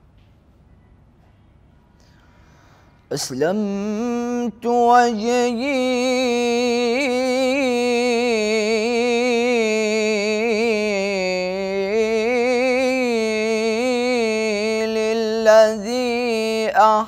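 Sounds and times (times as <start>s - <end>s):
man singing unaccompanied: 3.1s - 17.0s.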